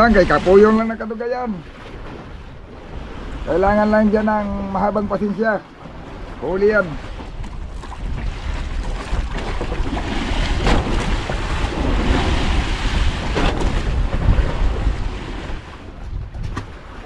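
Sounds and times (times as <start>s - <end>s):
sea washing around boat: 0.0s - 17.0s
wind buffeting microphone: 0.0s - 17.0s.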